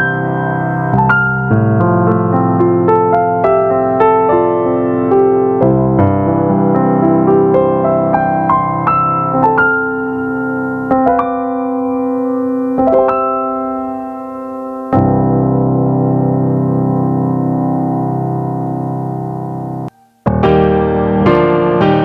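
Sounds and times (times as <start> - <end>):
digital piano playing: 0.0 - 22.0.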